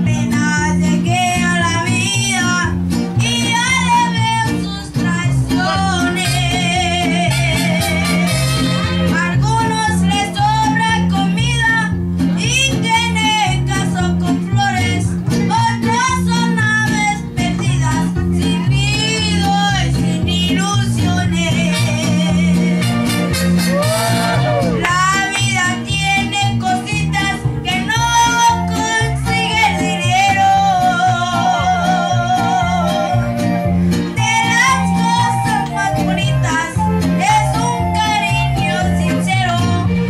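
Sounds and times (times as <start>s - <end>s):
boy singing into microphone: 0.0s - 8.3s, 9.1s - 22.9s, 24.4s - 40.0s
bass line: 0.0s - 40.0s
guitar accompaniment: 0.0s - 40.0s.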